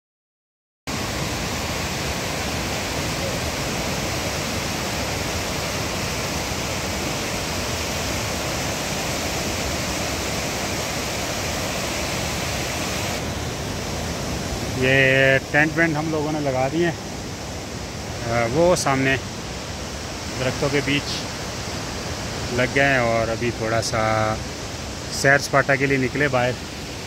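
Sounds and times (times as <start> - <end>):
river rushing over rocks: 0.9 - 27.0.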